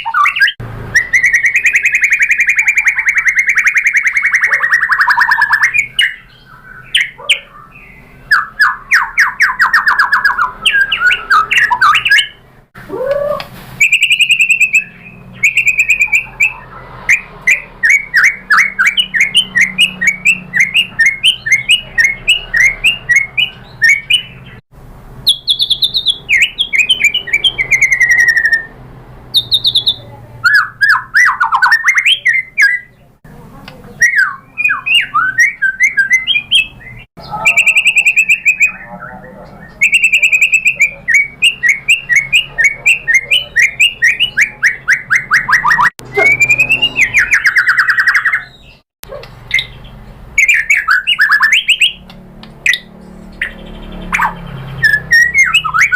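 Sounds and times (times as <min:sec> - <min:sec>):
bird singing: 0:00.0 - 0:24.6, 0:25.2 - 0:55.9.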